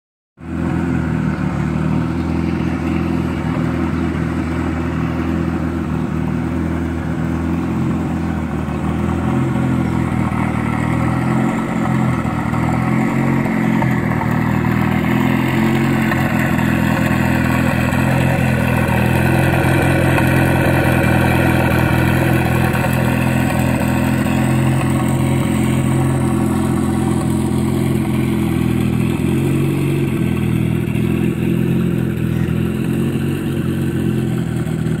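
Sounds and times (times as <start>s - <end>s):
car engine running: 0.4s - 35.0s.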